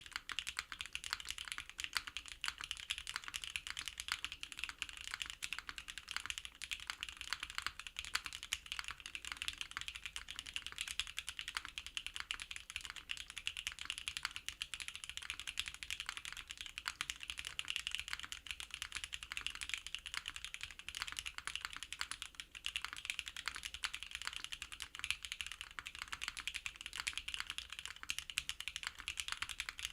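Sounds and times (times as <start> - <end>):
mechanical keyboard typing: 0.0 - 29.9.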